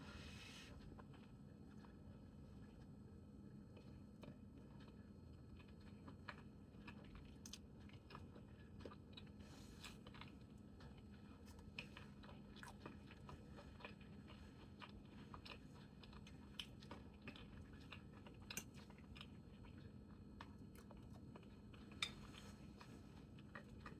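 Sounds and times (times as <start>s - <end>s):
low steady hum: 0.0s - 23.9s
wet chewing sounds: 3.7s - 23.9s.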